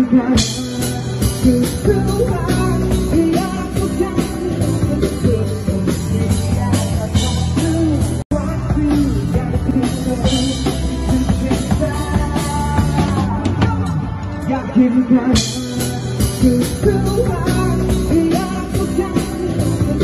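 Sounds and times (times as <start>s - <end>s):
drum kit: 0.0s - 20.0s
electric guitar: 0.0s - 20.0s
man singing lead vocals: 0.0s - 20.0s.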